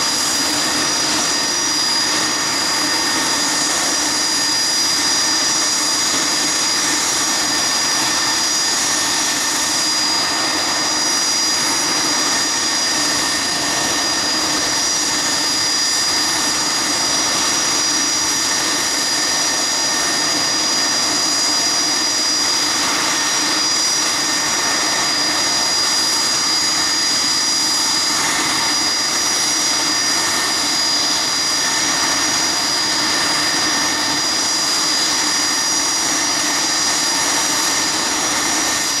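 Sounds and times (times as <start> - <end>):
jet turbine whine: 0.0 - 39.0.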